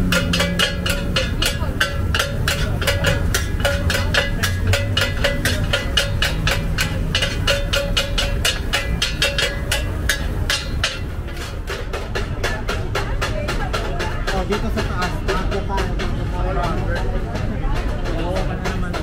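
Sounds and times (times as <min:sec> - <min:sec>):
knocking of hard objects: 0:00.0 - 0:19.0.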